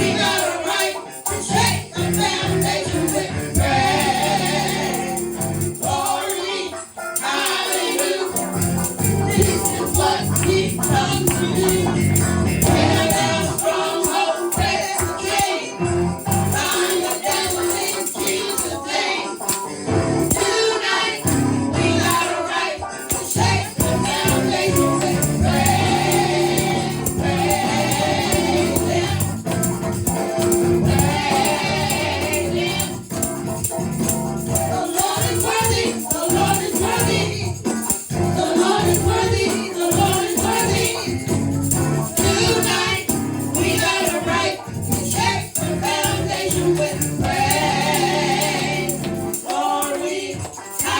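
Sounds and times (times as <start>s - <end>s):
band playing: 0.0s - 6.1s, 8.4s - 49.4s
gospel group singing: 0.0s - 50.9s
tambourine rattle beat: 0.0s - 50.9s.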